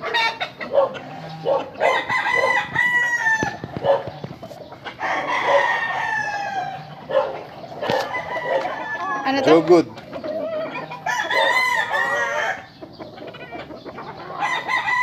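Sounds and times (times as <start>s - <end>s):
chicken clucks: 0.0s - 15.0s
roosters crowing: 0.0s - 15.0s.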